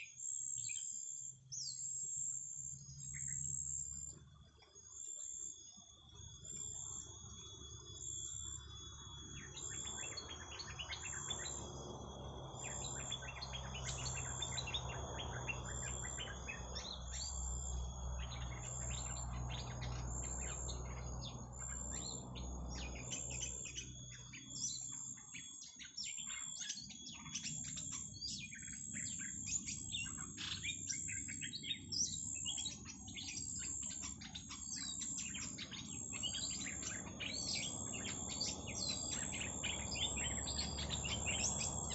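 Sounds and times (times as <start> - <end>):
high insect-like whine: 0.0 - 41.9
small birds chirping rapidly: 0.0 - 41.9.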